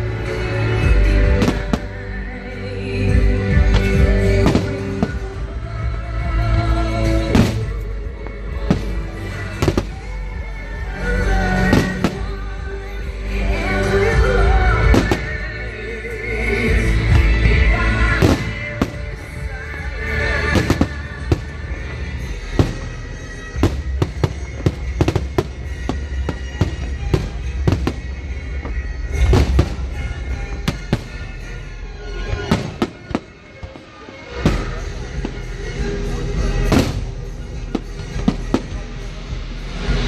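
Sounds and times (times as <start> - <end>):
music playing: 0.0 - 40.0
fireworks bursting and crackling: 1.0 - 2.2, 3.5 - 6.3, 7.0 - 15.7, 16.8 - 40.0.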